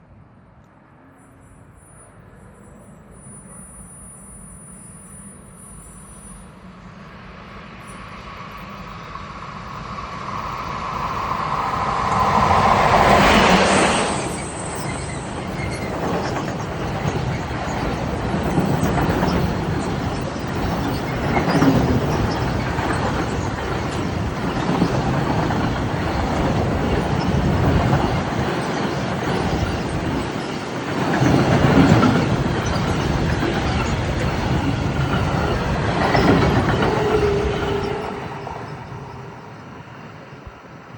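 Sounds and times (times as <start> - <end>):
freight train rumbling past: 6.7 - 40.9.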